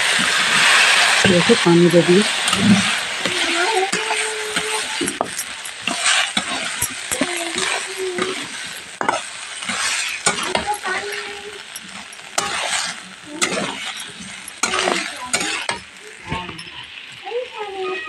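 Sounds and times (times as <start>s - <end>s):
curry sizzling: 0.0s - 18.0s
metal spatula scraping pan: 0.4s - 17.0s.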